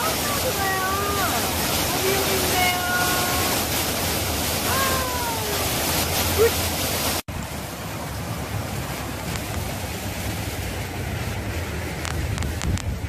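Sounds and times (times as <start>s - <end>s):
water pouring over a weir: 0.0s - 13.0s
water running through a channel: 0.0s - 13.0s.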